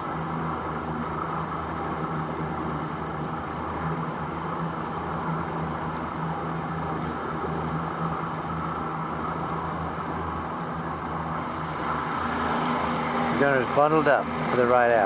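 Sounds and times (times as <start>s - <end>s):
small boat motor droning: 0.0s - 15.0s
wind and water noise: 0.0s - 15.0s.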